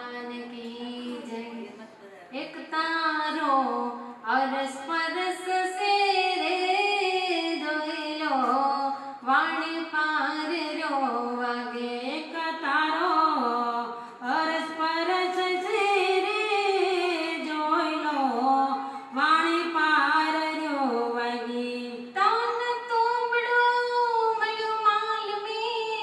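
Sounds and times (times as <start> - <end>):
woman singing unaccompanied: 0.0 - 1.8, 2.4 - 26.0.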